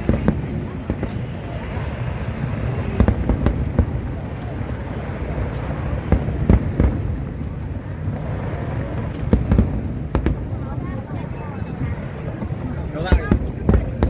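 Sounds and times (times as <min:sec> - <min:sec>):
continuous low rumble: 0:00.0 - 0:14.0
fireworks bursting: 0:00.0 - 0:14.0.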